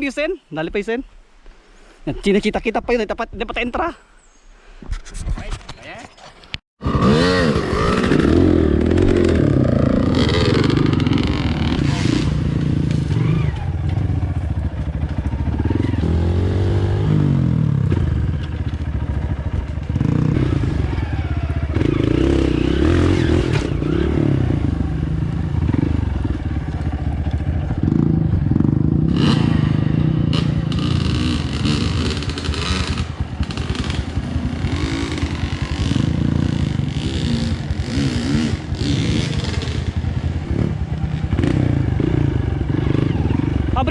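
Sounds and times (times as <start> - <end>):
dirt bike engine revving: 6.8 - 43.9.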